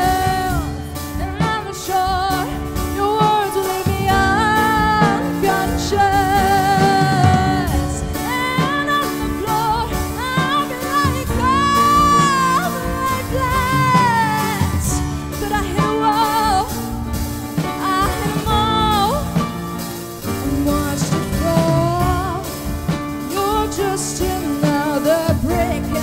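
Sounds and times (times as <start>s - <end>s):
backing instruments: 0.0s - 26.0s
drum kit: 0.0s - 26.0s.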